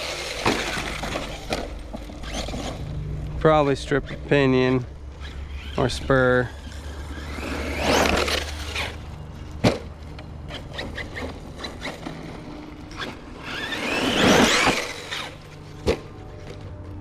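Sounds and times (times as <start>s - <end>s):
rc car motor whine: 0.0s - 9.6s, 10.4s - 17.0s.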